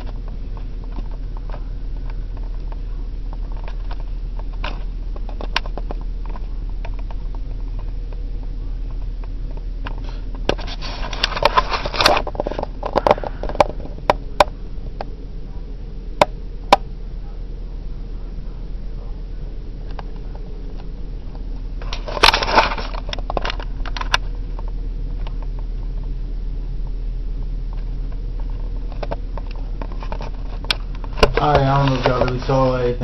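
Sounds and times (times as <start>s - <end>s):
rustling and scraping on microphone: 0.0s - 15.8s, 17.2s - 33.0s
low electrical hum: 0.0s - 33.0s.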